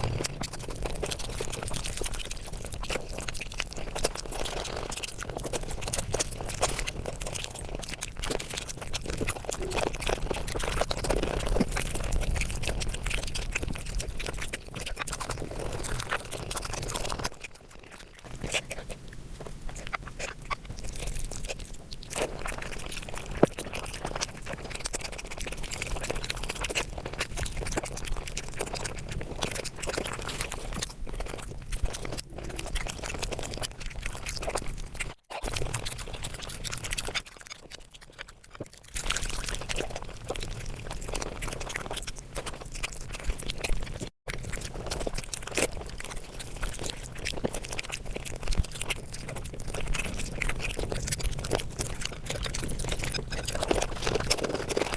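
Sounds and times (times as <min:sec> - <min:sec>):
sped-up chewing and crunching: 0:00.0 - 0:54.9.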